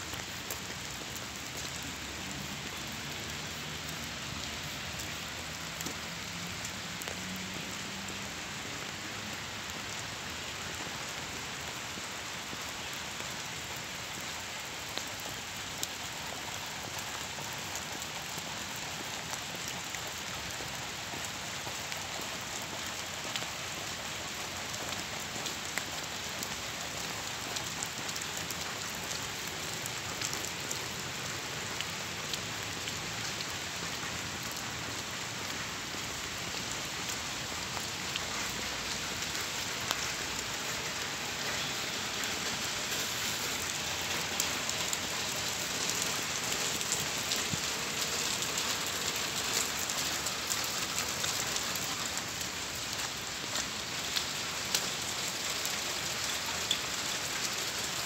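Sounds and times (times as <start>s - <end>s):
rain on pavement and puddles: 0.0s - 58.0s.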